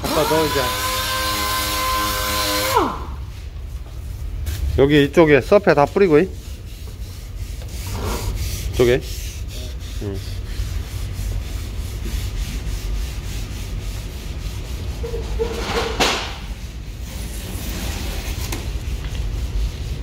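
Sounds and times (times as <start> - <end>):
scuff pad rubbing painted metal: 3.3 - 20.0.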